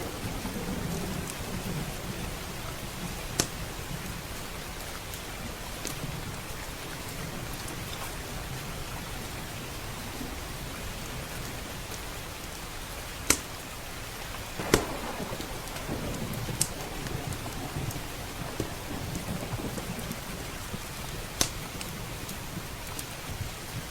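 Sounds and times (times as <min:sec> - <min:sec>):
steady rain: 0:00.0 - 0:23.9
wood fire crackling: 0:00.0 - 0:23.9.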